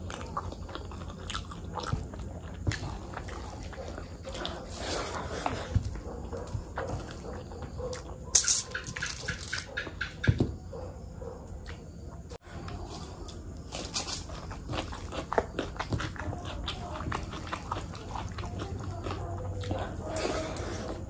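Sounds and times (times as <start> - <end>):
wet chewing and mouth smacking: 0.0 - 10.1, 10.7 - 21.0.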